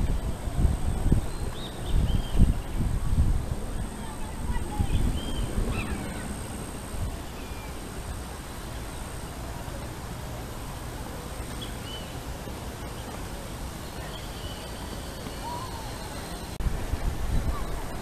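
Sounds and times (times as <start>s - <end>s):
low rumble and hiss: 0.0s - 18.0s.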